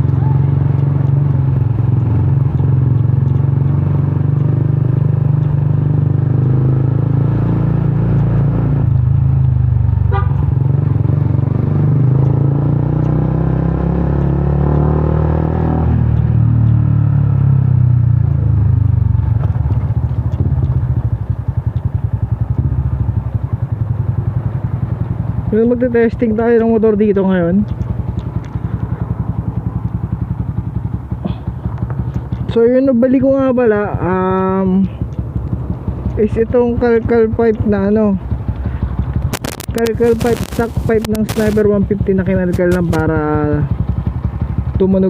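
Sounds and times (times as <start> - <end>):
loud motorcycle engine running: 0.0 - 45.0.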